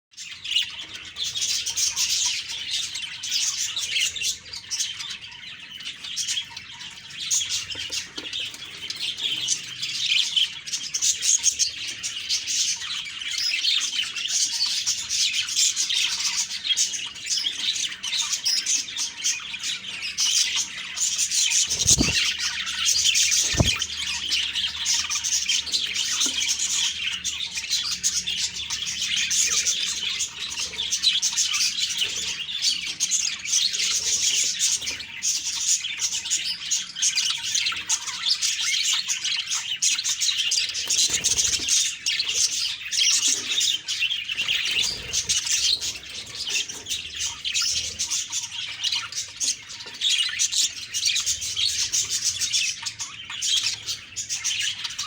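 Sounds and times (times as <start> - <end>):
budgerigars chirping and warbling: 0.2 - 55.0.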